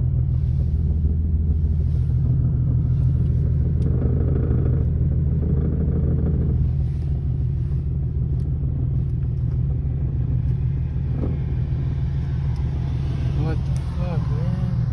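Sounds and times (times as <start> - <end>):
car engine droning: 0.0 - 14.9.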